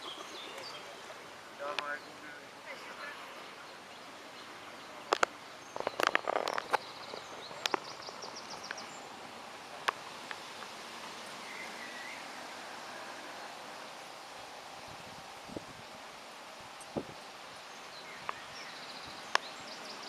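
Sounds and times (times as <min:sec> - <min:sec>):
birds calling faintly: 0:00.0 - 0:20.0
outdoor background hiss: 0:00.0 - 0:20.0.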